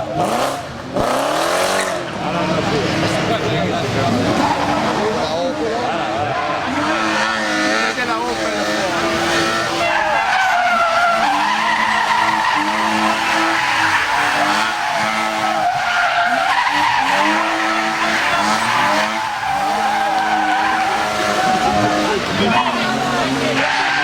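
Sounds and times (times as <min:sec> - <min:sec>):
car engine revving hard: 0:00.0 - 0:24.0
tyres squealing: 0:03.0 - 0:24.0.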